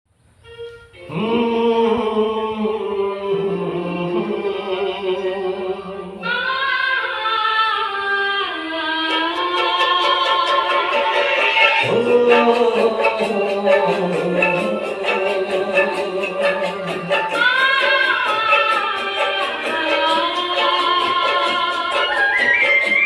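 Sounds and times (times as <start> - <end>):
choir-like held notes: 0.5 - 23.0.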